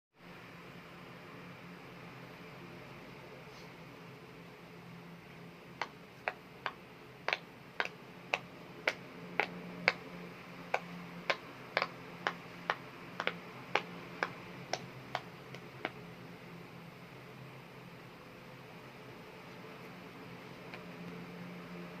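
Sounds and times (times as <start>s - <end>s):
faint steady hum: 0.2s - 22.0s.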